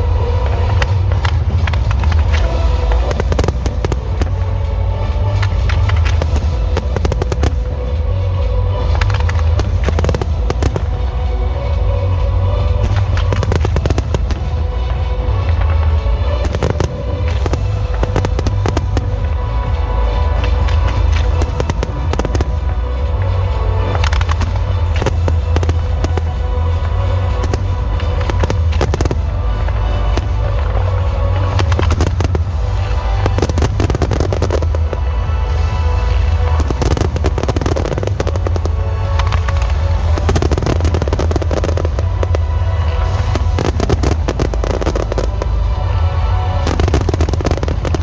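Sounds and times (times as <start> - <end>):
fireworks bangs and crackles: 0.0 - 48.0
music with heavy bass beat: 0.0 - 48.0.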